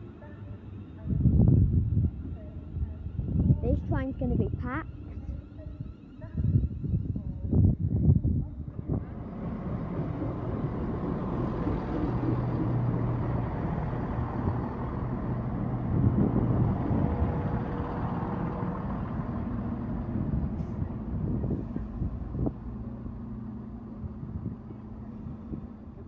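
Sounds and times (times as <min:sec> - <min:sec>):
diesel train passing: 0:00.0 - 0:26.0.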